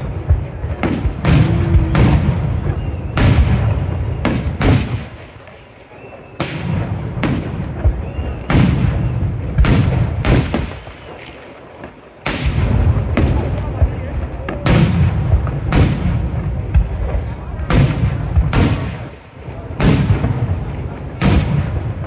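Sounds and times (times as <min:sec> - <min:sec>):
low rumbling echo: 0:00.0 - 0:11.4, 0:12.3 - 0:22.0.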